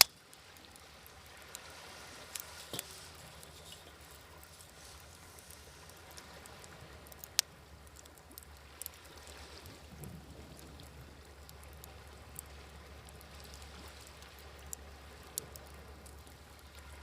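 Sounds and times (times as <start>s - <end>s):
waves washing: 0.0s - 17.0s
wood fire crackling and popping: 0.0s - 17.0s.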